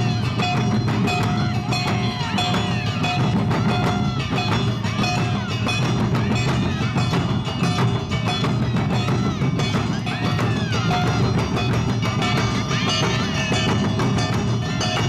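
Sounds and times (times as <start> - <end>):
drum and metal percussion: 0.0 - 15.0.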